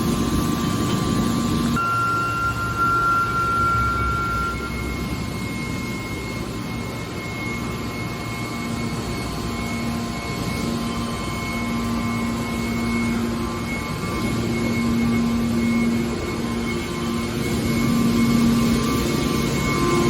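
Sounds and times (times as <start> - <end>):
low machine hum: 0.0 - 20.0
machine high whine: 0.0 - 20.0.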